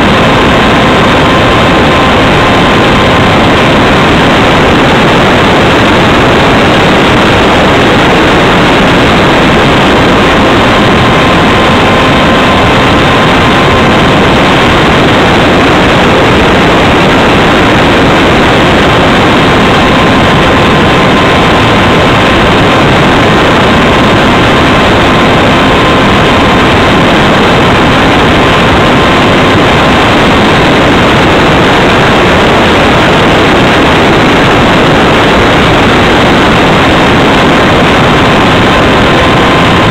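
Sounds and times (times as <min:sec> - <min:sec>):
faint high whine: 0:00.0 - 0:39.9
wind rushing over microphone: 0:00.0 - 0:39.9.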